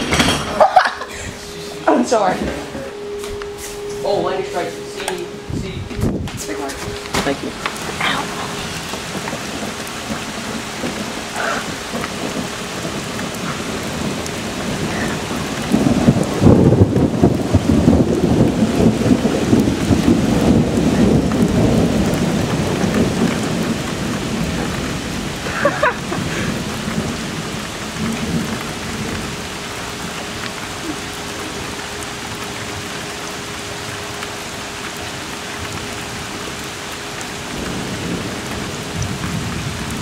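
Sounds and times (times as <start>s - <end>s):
rolling thunder: 0.0s - 2.8s, 4.3s - 36.7s, 37.4s - 40.0s
heavy rain: 0.0s - 40.0s.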